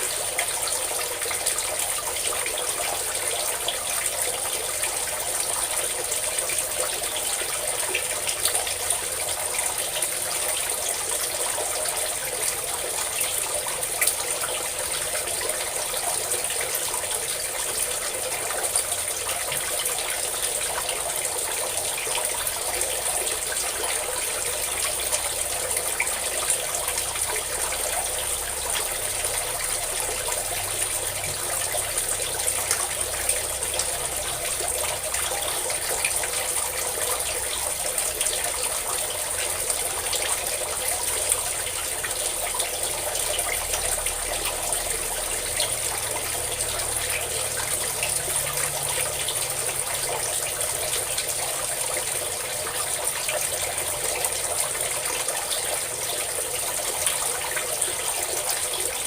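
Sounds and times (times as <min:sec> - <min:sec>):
water gushing: 0:00.0 - 0:59.0.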